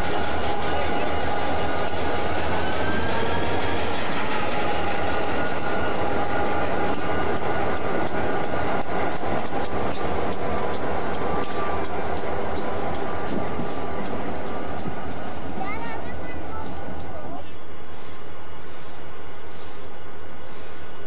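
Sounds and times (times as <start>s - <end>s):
locomotive engines idling: 0.0s - 17.6s.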